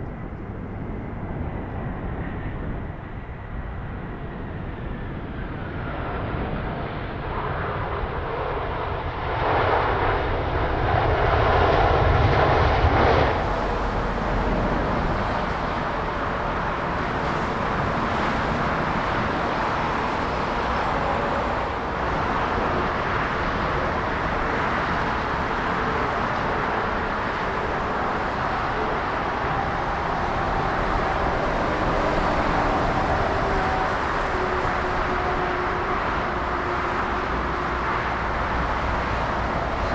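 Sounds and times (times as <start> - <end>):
jet airliner engines: 0.0 - 39.9.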